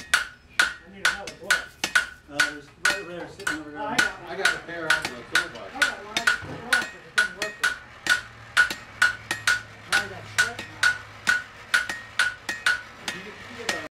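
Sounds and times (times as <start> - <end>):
hammer striking iron on anvil: 0.0 - 13.9.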